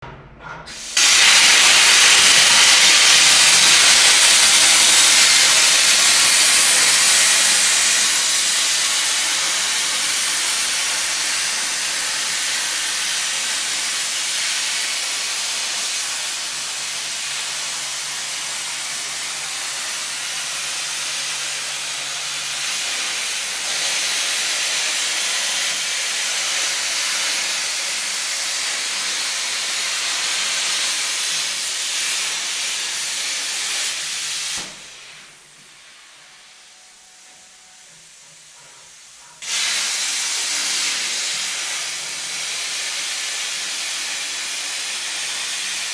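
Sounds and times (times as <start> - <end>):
plasma cutter hissing: 0.7 - 45.9.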